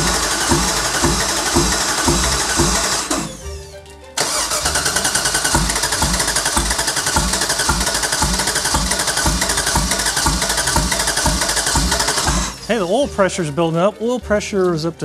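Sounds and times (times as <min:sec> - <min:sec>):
engine cranking on starter: 0:00.0 - 0:12.8.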